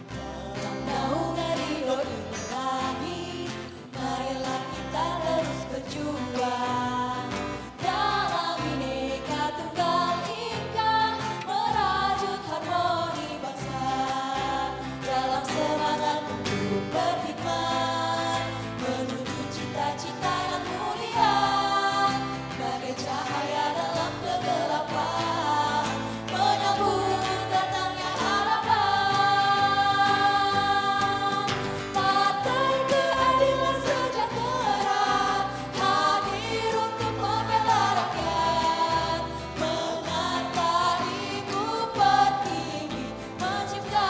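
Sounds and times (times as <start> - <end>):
song with chorus vocals: 0.0 - 44.0.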